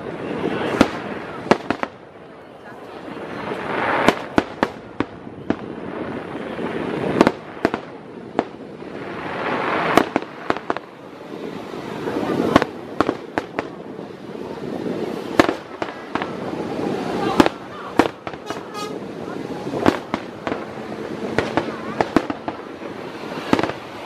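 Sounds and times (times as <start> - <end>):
fireworks bangs: 0.0 - 24.0
fireworks hissing crackle: 0.0 - 24.0.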